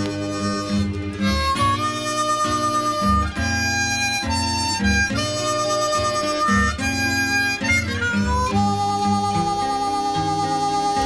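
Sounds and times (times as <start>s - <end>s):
blues harmonica: 0.0s - 11.0s
low guitar accompaniment: 0.0s - 11.0s.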